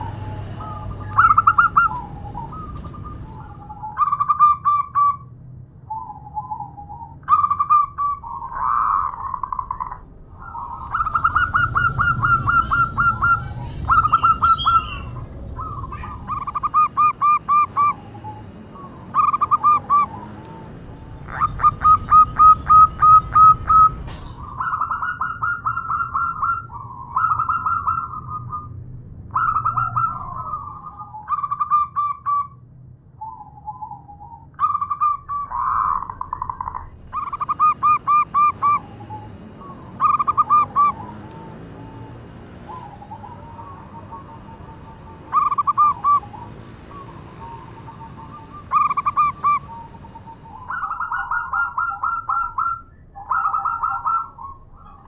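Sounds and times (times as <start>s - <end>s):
dove cooing: 0.0s - 5.2s, 5.9s - 28.7s, 29.3s - 32.6s, 33.2s - 55.0s.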